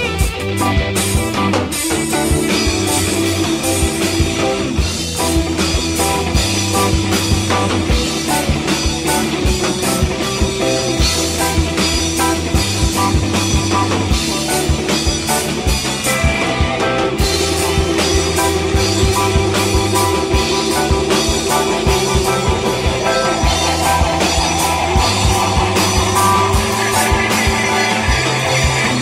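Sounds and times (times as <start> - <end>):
drum beat: 0.0 - 29.0
guitar chords: 0.0 - 29.0.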